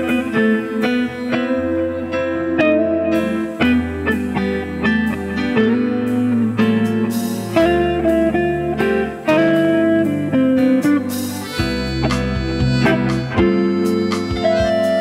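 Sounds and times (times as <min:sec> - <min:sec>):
accordion and keyboard chords: 0:00.0 - 0:15.0
bass notes: 0:00.0 - 0:15.0
electric guitar melody: 0:00.0 - 0:15.0.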